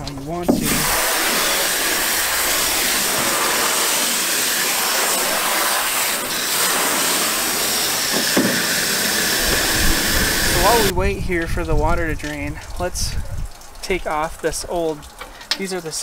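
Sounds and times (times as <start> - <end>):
water spray on metal deck: 0.0 - 16.0.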